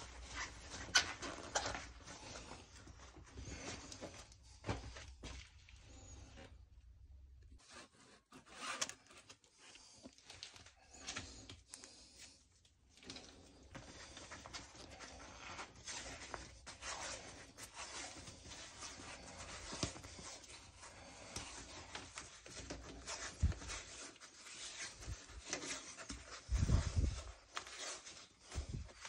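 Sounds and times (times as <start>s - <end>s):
tape rustling and crackling: 0.0s - 6.6s, 7.4s - 29.0s.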